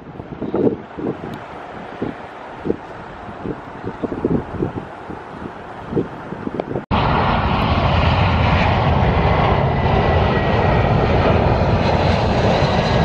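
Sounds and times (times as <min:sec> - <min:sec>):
jet airliner passing low: 0:00.0 - 0:13.0.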